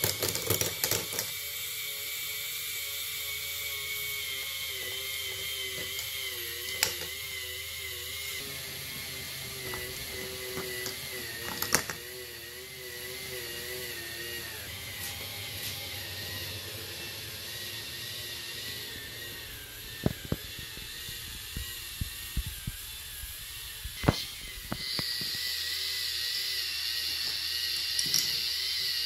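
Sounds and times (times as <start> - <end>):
small motor whine: 0.0 - 29.0.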